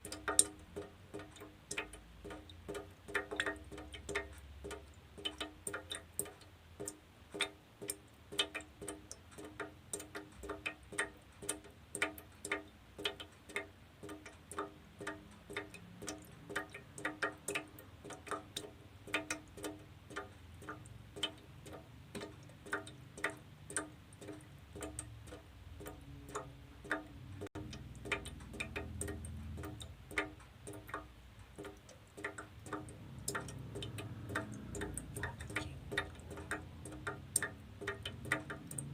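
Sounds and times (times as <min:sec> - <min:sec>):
water drops plinking into a can: 0:00.0 - 0:38.9.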